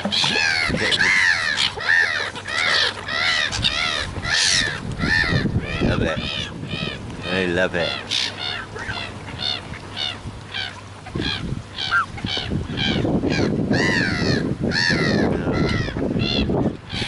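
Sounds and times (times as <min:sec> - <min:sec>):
gulls and geese calling: 0:00.0 - 0:17.0.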